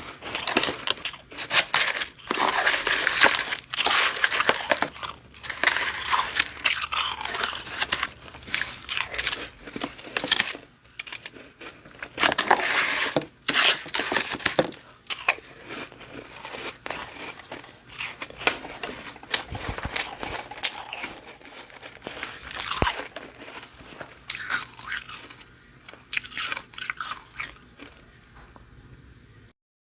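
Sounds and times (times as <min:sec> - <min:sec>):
frost being chewed: 0:00.0 - 0:28.4.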